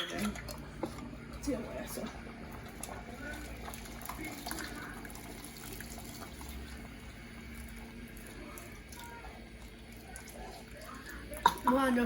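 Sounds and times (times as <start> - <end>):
liquid running: 0.0 - 12.0.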